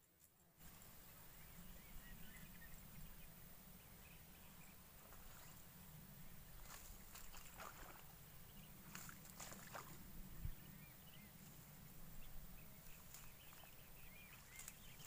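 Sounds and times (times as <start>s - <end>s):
low outdoor rumble: 0.4s - 15.0s.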